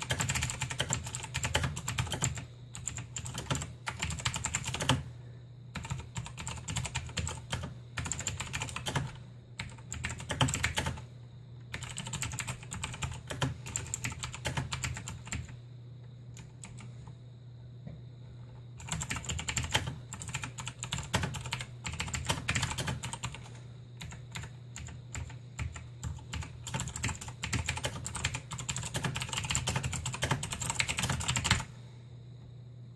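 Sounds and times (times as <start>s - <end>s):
mechanical keyboard typing clicks: 0.0s - 5.0s, 5.8s - 11.0s, 11.7s - 15.6s, 18.8s - 31.7s.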